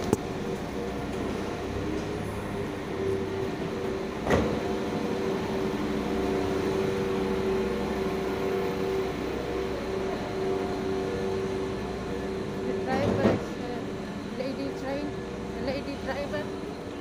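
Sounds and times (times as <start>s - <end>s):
train carriage hum and rumble: 0.0s - 17.0s.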